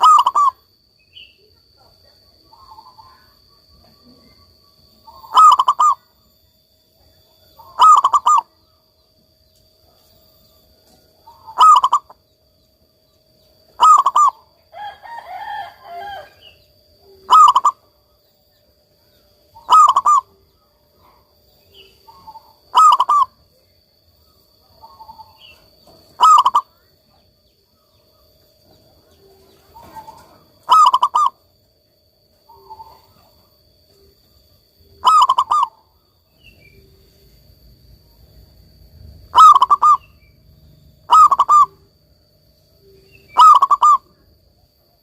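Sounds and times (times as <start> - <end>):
dove cooing: 0.0 - 6.2, 7.2 - 8.7, 11.1 - 12.3, 13.6 - 18.1, 19.5 - 23.7, 24.5 - 31.6, 32.3 - 42.0, 42.7 - 45.0.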